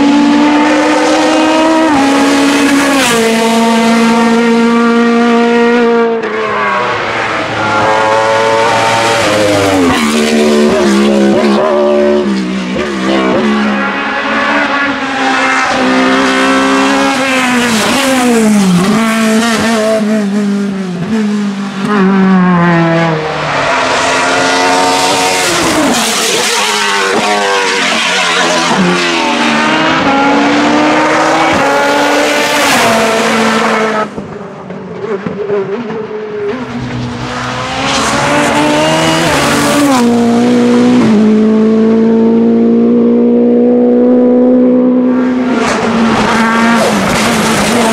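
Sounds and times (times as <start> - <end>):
race car engines revving: 0.0 - 47.9.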